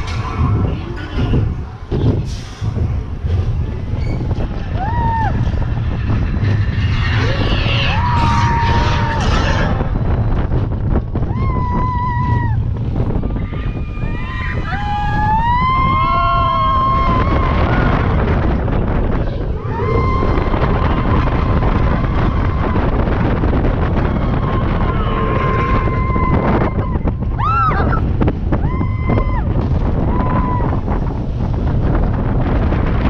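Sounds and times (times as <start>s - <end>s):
roller coaster rumble: 0.0s - 33.0s
wind rushing over microphone: 0.0s - 33.0s
riders screaming and whooping: 4.0s - 31.1s.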